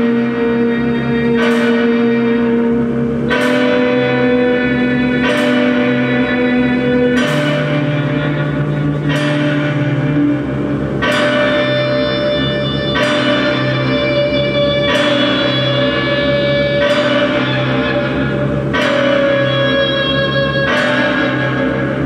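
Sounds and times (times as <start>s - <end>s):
cymbal crashes: 0.0s - 22.0s
live instrumental rock band: 0.0s - 22.0s.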